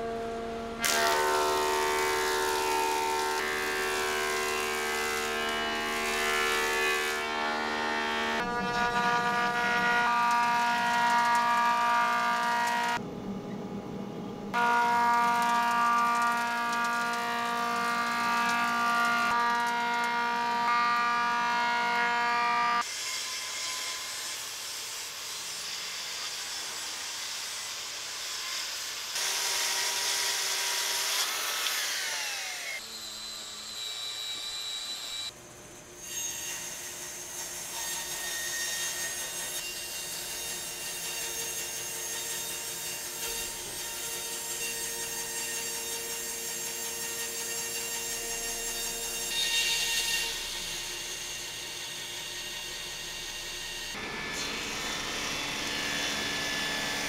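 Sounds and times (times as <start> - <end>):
thickness planer whining: 0.0 - 13.1, 14.5 - 24.6, 25.4 - 35.4, 36.6 - 57.0
bandsaw cutting: 0.8 - 13.0, 14.5 - 35.3, 36.0 - 57.0
saw cutting wood: 0.8 - 13.0, 14.6 - 35.4, 36.0 - 57.0.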